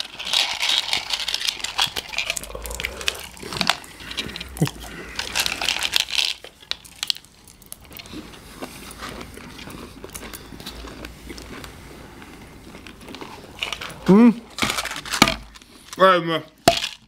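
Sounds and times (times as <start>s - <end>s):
plastic crinkling and rustling: 0.0s - 17.0s.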